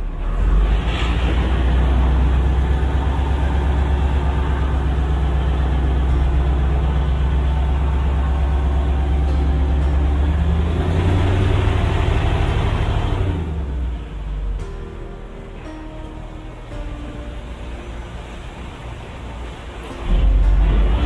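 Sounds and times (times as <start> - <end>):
boat diesel engine humming: 0.0 - 21.0.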